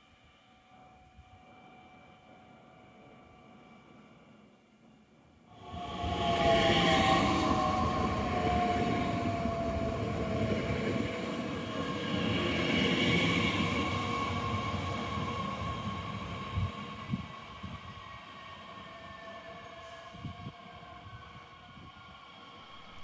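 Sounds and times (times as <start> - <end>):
train whine: 0.0 - 23.0
electric train passing: 0.2 - 23.0.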